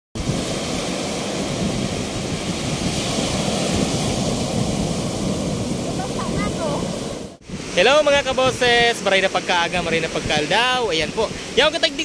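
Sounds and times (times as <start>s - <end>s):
wind buffeting microphone: 0.2s - 11.7s
sea surf rushing onto beach: 0.2s - 12.0s.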